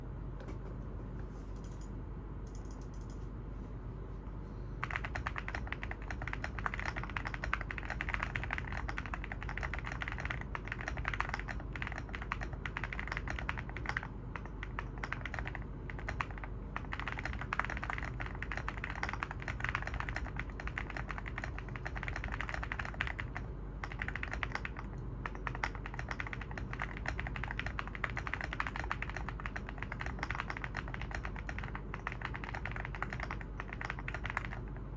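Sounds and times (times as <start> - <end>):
mechanical keyboard typing: 4.8 - 34.9.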